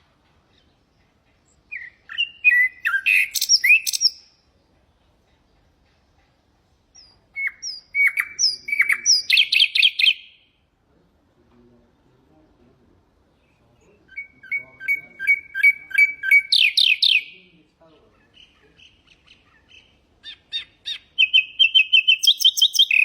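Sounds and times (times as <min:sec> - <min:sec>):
nightingale singing: 0:00.0 - 0:06.1, 0:06.8 - 0:10.7, 0:13.3 - 0:23.0.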